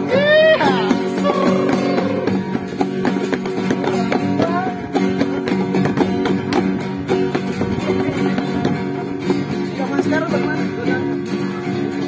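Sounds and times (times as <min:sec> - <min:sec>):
acoustic guitars strumming: 0:00.0 - 0:12.0
ukulele strumming: 0:00.0 - 0:12.0.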